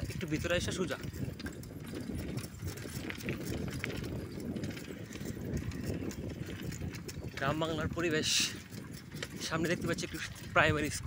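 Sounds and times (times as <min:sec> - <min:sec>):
bicycle rattling on rough lane: 0:00.0 - 0:11.0
wind on microphone: 0:00.0 - 0:11.0.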